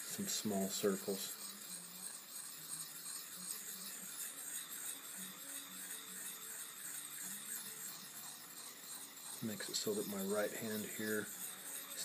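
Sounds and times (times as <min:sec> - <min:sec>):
faint background music: 0:00.0 - 0:12.0
sharpening rod scraping knife blade: 0:00.0 - 0:12.0.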